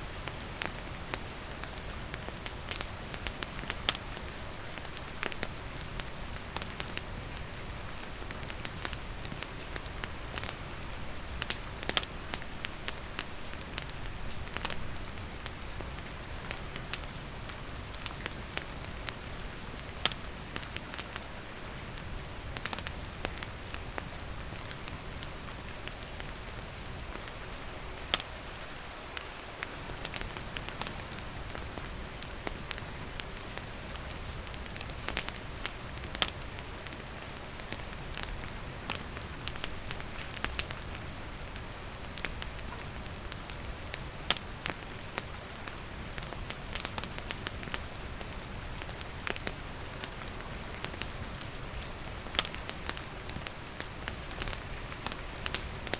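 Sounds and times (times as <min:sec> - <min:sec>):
campfire crackling: 0:00.0 - 0:55.9
rain falling: 0:00.0 - 0:55.9.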